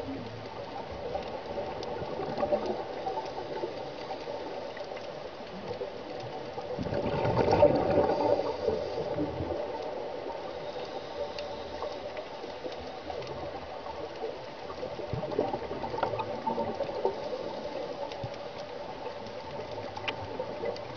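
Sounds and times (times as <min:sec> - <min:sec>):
underwater regulator bubbles gurgling: 0:00.0 - 0:20.9.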